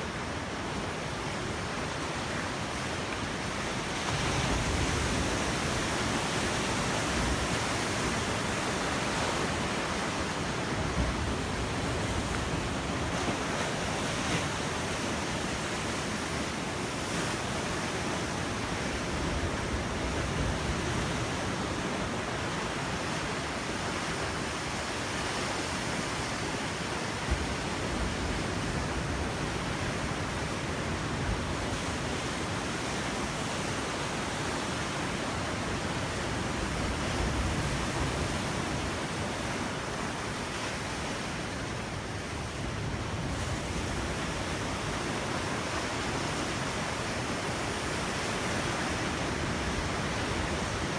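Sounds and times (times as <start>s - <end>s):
ocean waves breaking on beach: 0.0s - 50.9s.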